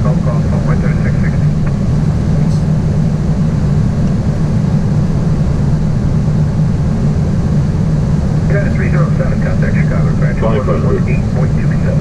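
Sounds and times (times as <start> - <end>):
airflow and engines droning: 0.0 - 12.0.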